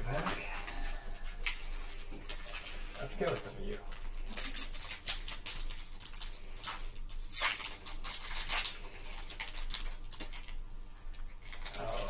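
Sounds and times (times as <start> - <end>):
foil wrapper crinkling and tearing: 0.1 - 12.0.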